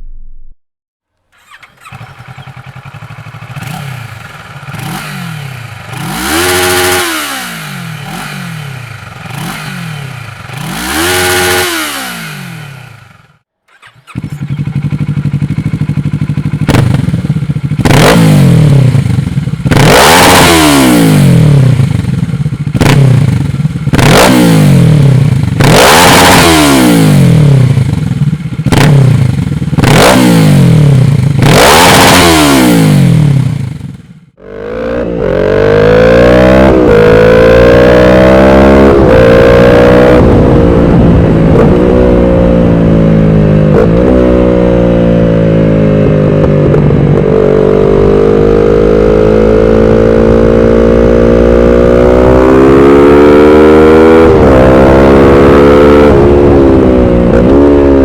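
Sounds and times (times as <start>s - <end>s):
motorcycle engine revving: 1.3s - 58.0s.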